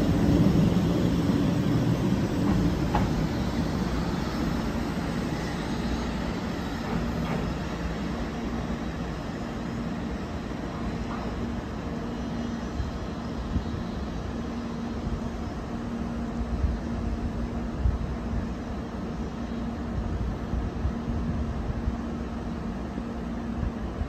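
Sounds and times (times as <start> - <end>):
high-speed train running: 0.0 - 24.0.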